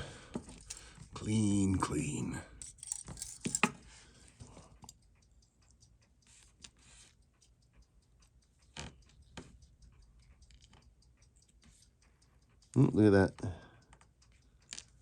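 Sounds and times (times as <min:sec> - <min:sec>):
small clicks and taps of tools: 0:02.6 - 0:15.0.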